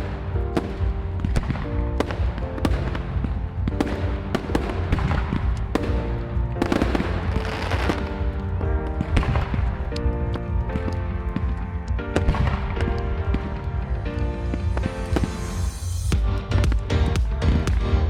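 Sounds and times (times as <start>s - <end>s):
fireworks bangs: 0.0s - 15.8s
fireworks hissing crackle: 0.0s - 16.1s
music with sustained notes: 0.0s - 18.0s.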